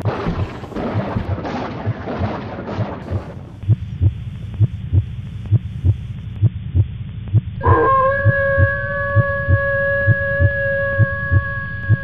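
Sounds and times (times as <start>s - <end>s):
heartbeat thumps: 0.0s - 12.0s
rumbling noise: 0.0s - 12.0s.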